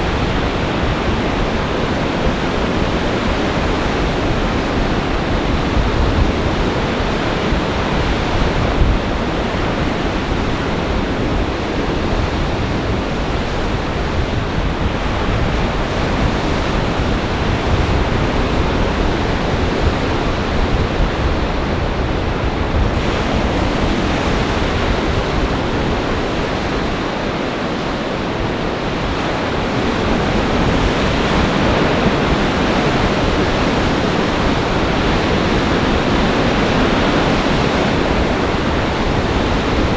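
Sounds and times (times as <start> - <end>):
waves crashing on shore: 0.0 - 39.9
wind buffeting microphone: 0.0 - 39.9.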